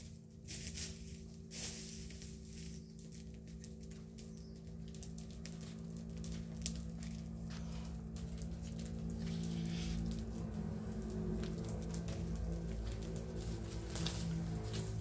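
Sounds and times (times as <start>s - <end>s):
brush fire crackling: 0.0s - 15.0s
steady low hum: 0.0s - 15.0s.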